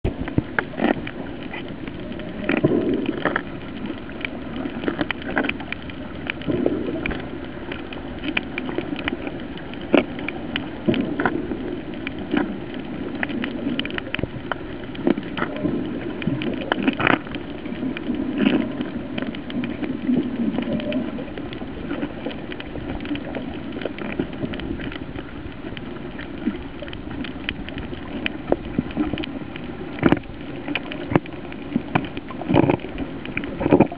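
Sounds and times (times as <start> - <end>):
low water surges: 0.0 - 33.9
muffled underwater wash: 0.0 - 33.9
sharp underwater clicks: 0.1 - 33.9.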